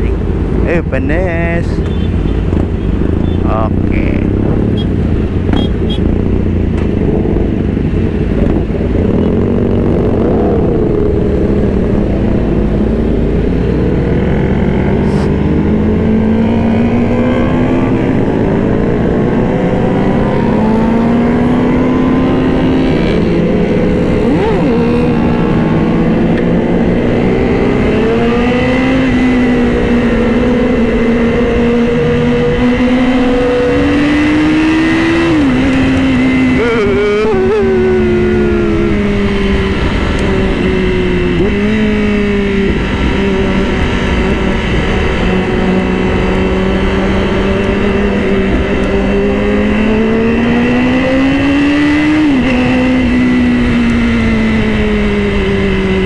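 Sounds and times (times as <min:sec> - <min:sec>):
motorcycle engine revving: 0:01.6 - 0:56.0.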